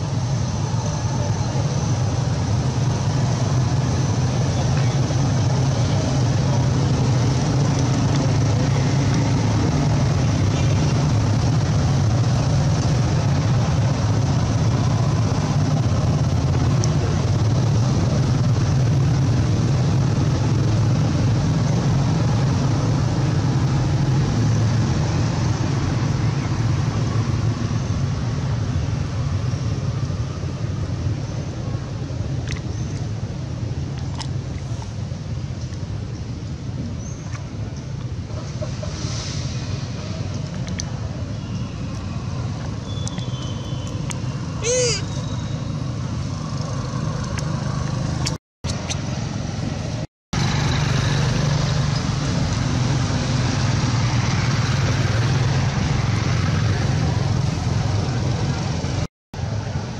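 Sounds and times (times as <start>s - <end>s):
low rumble with hiss: 0.0s - 59.9s.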